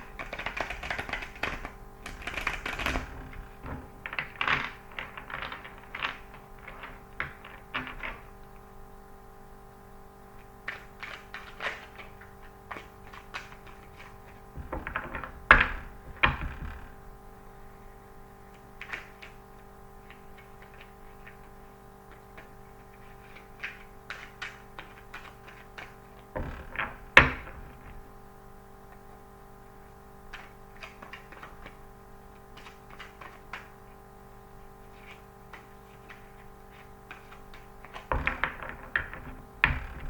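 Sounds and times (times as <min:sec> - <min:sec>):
cards clicking and tapping: 0:00.0 - 0:08.6, 0:10.4 - 0:17.0, 0:18.5 - 0:28.1, 0:30.3 - 0:34.0, 0:34.8 - 0:40.0.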